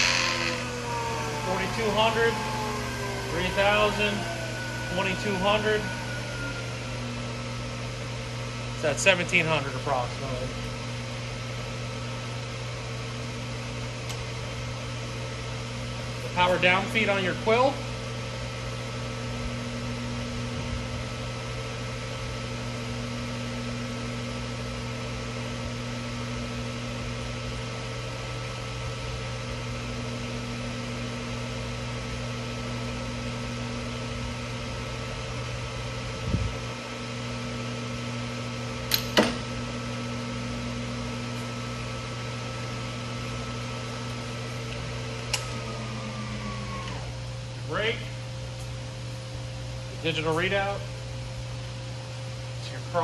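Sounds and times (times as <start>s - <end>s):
milling machine motor hum: 0.0s - 50.2s.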